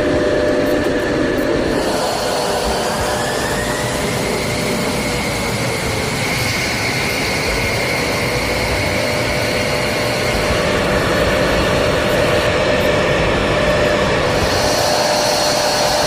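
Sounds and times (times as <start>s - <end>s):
jet engine whining: 0.0s - 16.0s.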